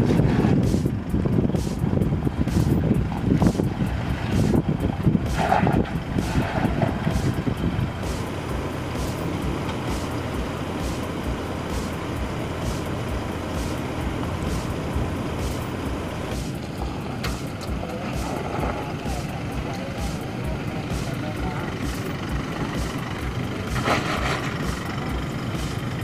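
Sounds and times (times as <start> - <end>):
suv engine rumbling: 0.0 - 26.0.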